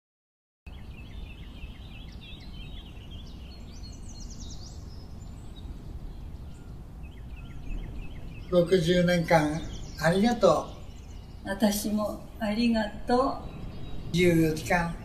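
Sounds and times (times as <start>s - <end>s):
low background rumble: 0.7s - 15.0s
small birds chirping: 0.7s - 15.0s.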